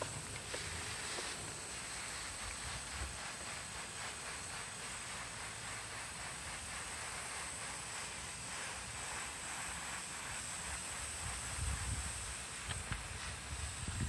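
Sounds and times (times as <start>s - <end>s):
hose spray hissing: 0.0s - 14.0s.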